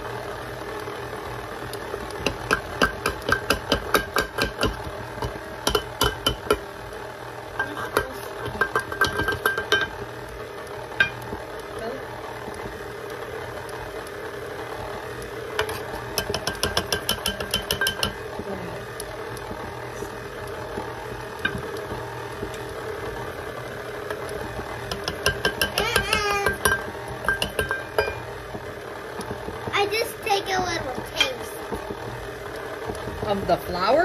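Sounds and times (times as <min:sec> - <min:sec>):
electric mixer motor running: 0:00.0 - 0:34.0.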